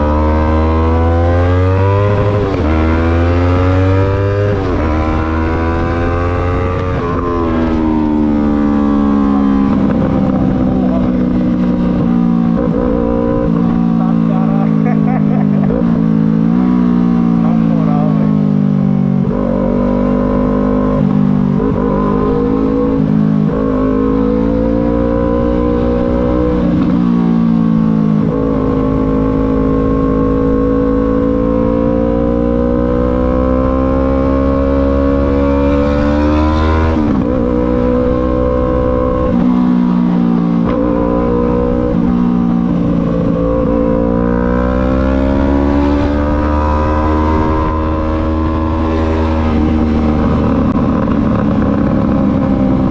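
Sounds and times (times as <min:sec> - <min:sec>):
motorcycle engine revving through gears: 0:00.0 - 0:52.9.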